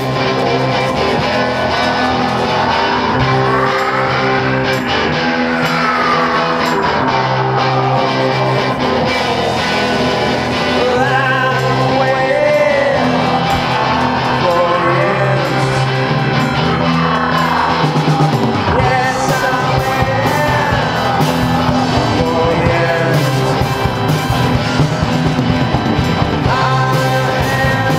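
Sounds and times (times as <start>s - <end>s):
synth-punk band music: 0.0s - 27.9s.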